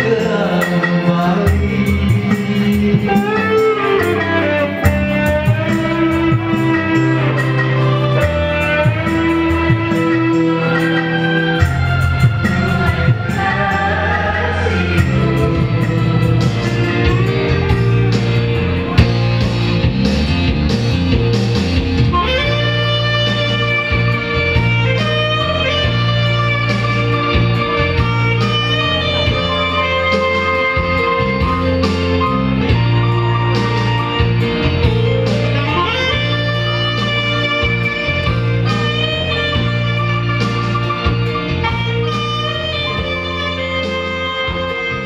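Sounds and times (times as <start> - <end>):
band with repeating bass line: 0.0 - 45.0
saxophone melody: 0.0 - 45.0.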